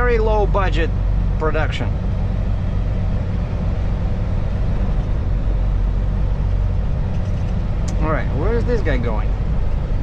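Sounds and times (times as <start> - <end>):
truck diesel engine droning: 0.0 - 10.0.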